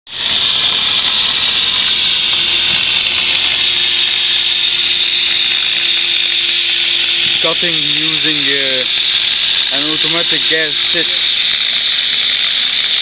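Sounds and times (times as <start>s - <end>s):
cutting torch hissing: 0.1s - 13.0s.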